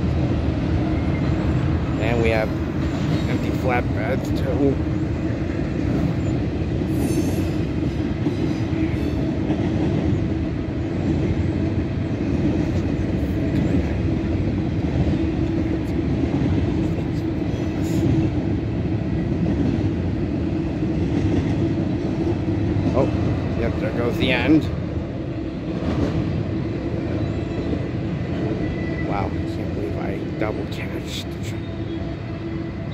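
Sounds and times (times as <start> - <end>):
train wheels rumbling on rail: 0.0 - 32.9.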